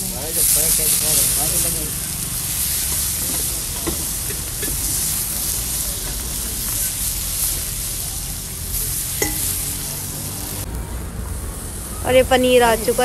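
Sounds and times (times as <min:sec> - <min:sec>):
bread sizzling on griddle: 0:00.0 - 0:13.0.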